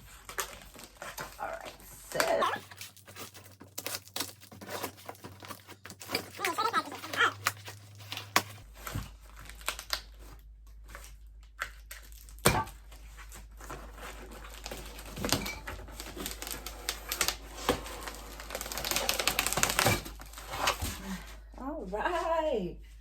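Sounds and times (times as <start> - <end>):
packaging rustling and crinkling: 0.0 - 21.5.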